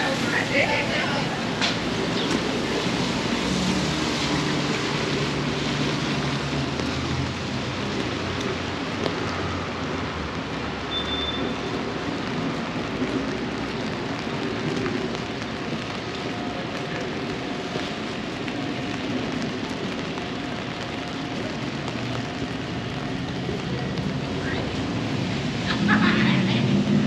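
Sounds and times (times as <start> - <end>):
rain on a wet street: 0.0 - 27.0
traffic noise: 0.0 - 27.0.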